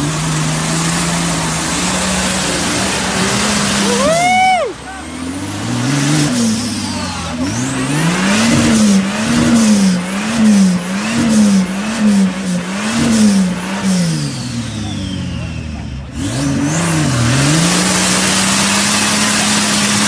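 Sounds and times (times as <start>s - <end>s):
engine revving hard: 0.0s - 20.0s
tyres churning mud: 0.0s - 20.0s.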